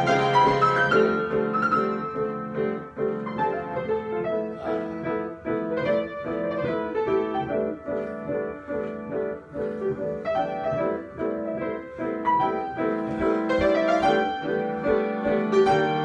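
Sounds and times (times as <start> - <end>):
piano improvisation: 0.0 - 16.0.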